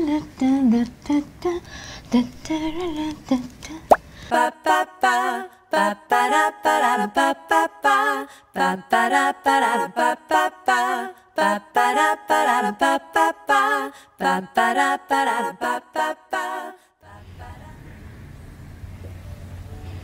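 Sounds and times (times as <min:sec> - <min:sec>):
woman singing unaccompanied: 0:00.0 - 0:17.8.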